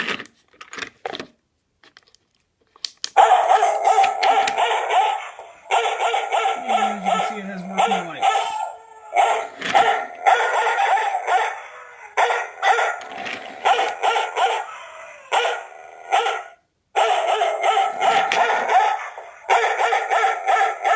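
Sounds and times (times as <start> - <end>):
dog barking: 3.2 - 20.9.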